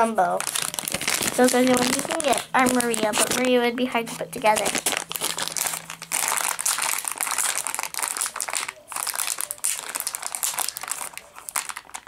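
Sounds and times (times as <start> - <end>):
foil pouch crinkling: 0.0 - 12.0.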